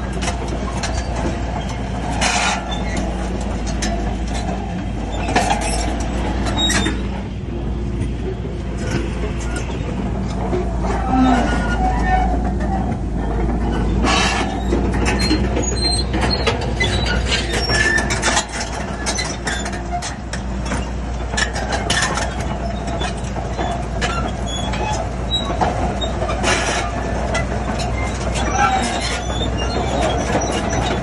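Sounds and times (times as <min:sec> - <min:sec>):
diesel machinery rumbling: 0:00.0 - 0:31.0
metallic clanks and rattles: 0:00.0 - 0:31.0.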